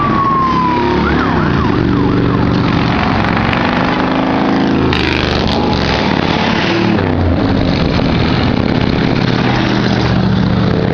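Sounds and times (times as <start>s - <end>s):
motorcycle engine rumbling: 0.0s - 10.9s
passing car engines: 0.0s - 10.9s.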